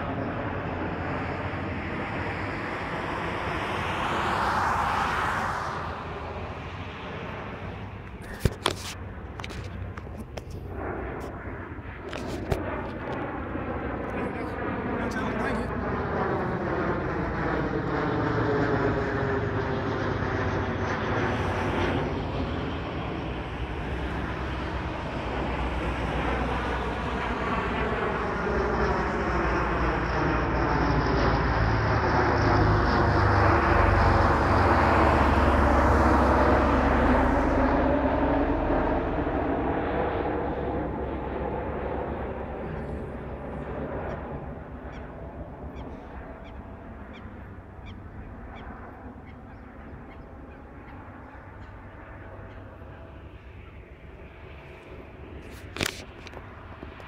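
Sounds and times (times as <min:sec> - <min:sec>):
turboprop aircraft engine drone: 0:00.0 - 0:57.0.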